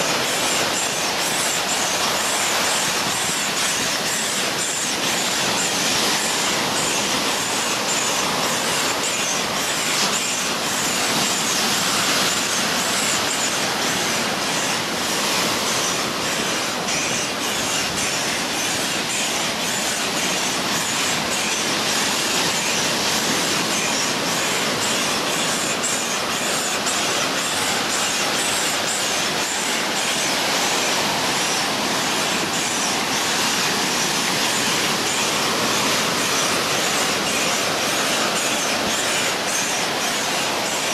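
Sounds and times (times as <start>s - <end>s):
ocean surf washing onto beach: 0.0s - 40.9s.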